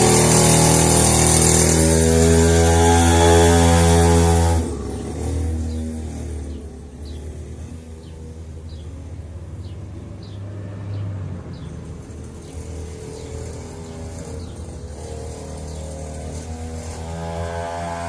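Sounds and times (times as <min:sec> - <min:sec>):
dirt bike engine running: 0:00.0 - 0:08.8, 0:12.3 - 0:18.0.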